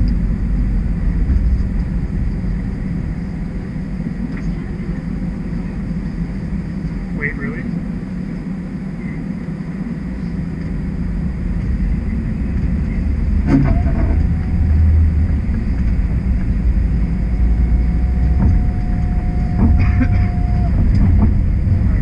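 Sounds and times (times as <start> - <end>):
streetcar rumble: 0.0 - 22.0.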